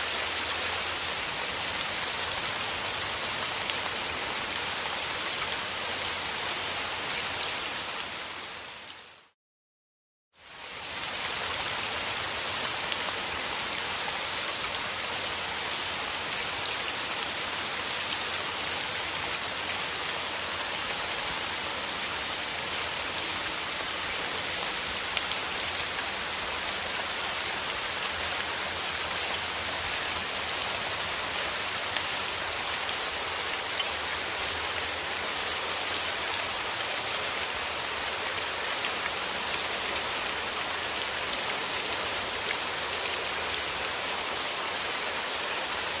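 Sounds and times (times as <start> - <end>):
steady rain falling: 0.0 - 9.4, 10.4 - 46.0.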